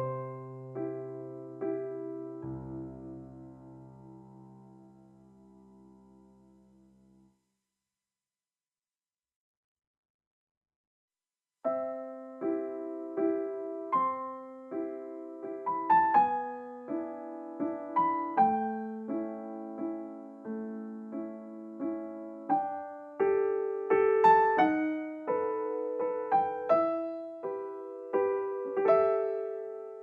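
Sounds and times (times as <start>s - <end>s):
soft slow piano music: 0.0s - 7.4s, 11.6s - 30.0s.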